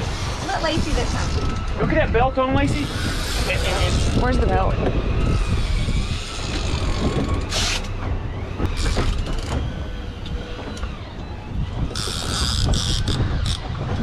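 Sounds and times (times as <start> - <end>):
outboard engines running: 0.0 - 14.0
wind rumble on microphone: 0.0 - 14.0.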